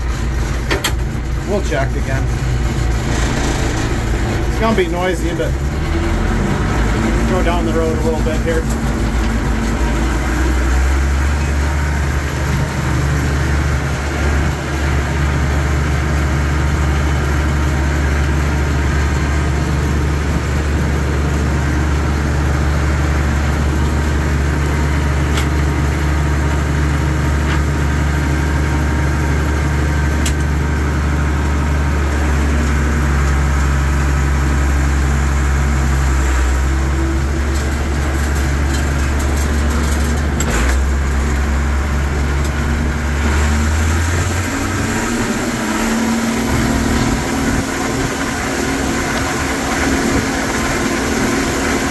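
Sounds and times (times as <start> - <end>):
tractor diesel engine running: 0.0 - 51.9
tyres on gravel road: 0.0 - 51.9.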